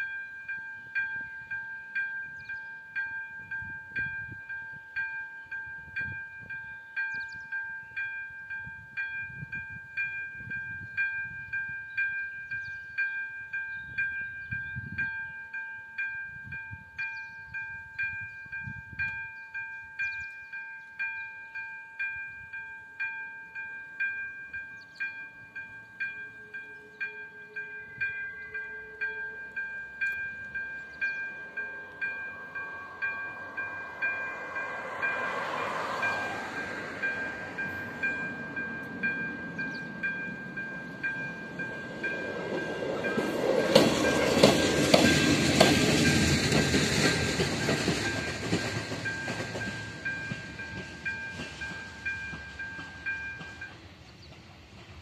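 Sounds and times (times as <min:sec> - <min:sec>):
level crossing warning bell: 0:00.0 - 0:54.0.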